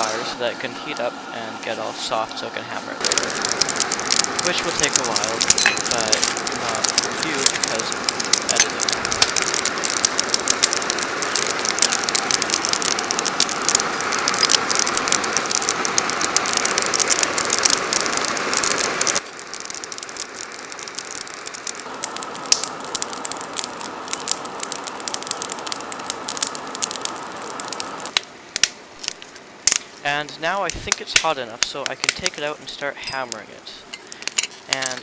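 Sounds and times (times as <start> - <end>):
fan blowing air: 0.0 - 35.0
wood fire crackling and popping: 0.0 - 35.0.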